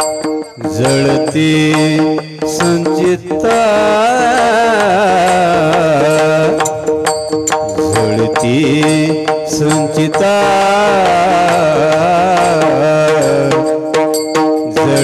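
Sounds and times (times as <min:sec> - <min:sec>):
devotional music with held notes: 0:00.0 - 0:15.0
sharp percussion strokes: 0:00.0 - 0:15.0.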